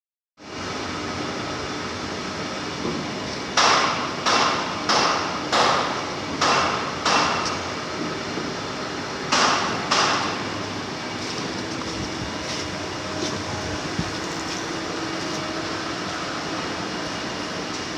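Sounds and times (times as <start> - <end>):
workshop machinery running: 0.4 - 17.9.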